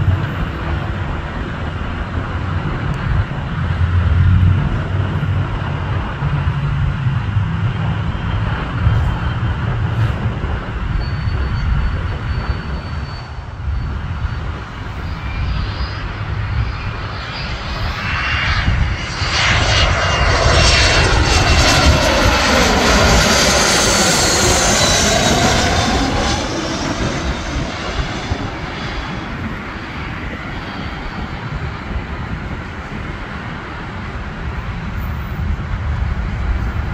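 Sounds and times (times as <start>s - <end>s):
jet passing overhead: 0.0s - 36.9s.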